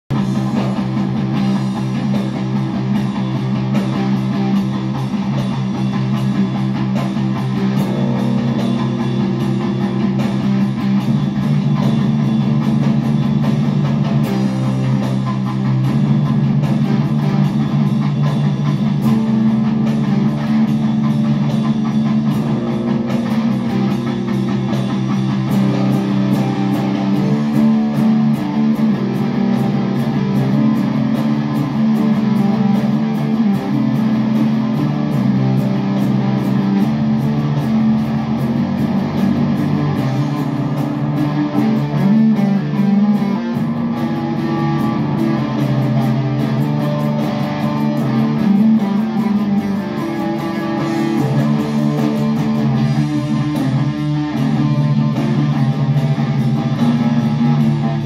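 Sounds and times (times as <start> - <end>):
electric guitars playing rock: 0.0 - 58.0.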